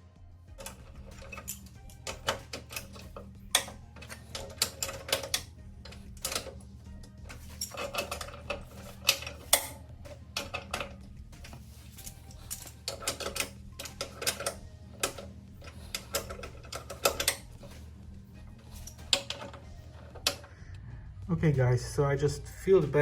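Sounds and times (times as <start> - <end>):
steady low hum: 0.0 - 23.0
tools clicking and knocking: 0.5 - 20.6.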